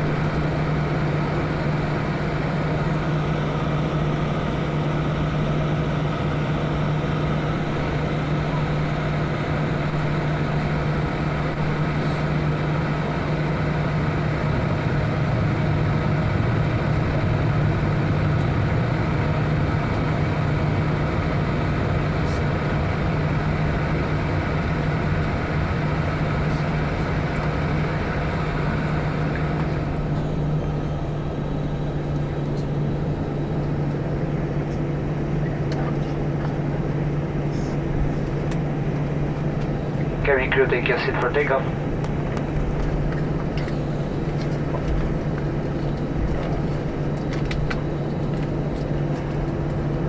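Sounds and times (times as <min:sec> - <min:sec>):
aircraft engine drone at idle: 0:00.0 - 0:50.0.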